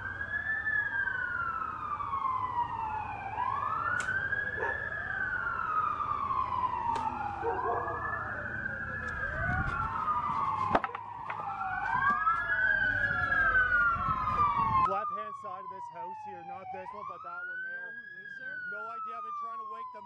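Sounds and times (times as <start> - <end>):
sirens wailing: 0.0 - 20.0.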